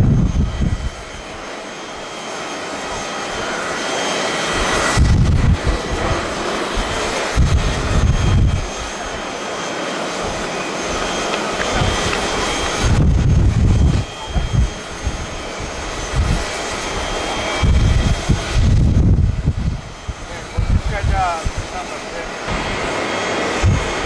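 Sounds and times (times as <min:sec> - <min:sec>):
wind buffeting microphone: 0:00.0 - 0:01.5, 0:04.4 - 0:09.3, 0:10.2 - 0:24.0
jet engine roar: 0:00.0 - 0:24.0.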